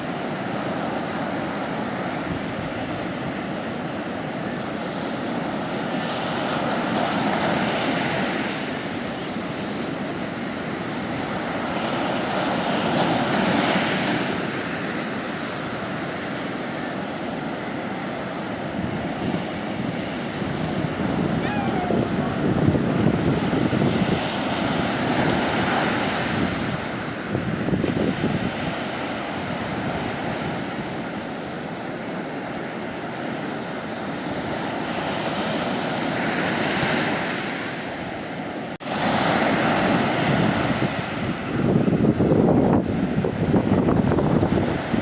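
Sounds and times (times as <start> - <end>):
sea waves breaking on beach: 0.0 - 45.0.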